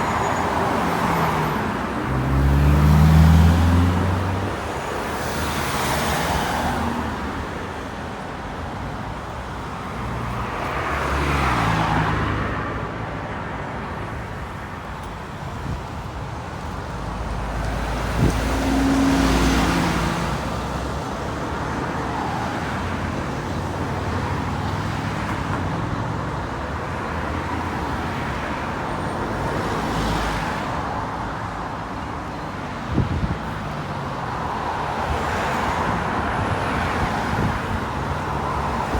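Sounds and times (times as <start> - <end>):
engine rumble and tyre noise: 0.0 - 38.9
vehicles passing: 0.0 - 38.9.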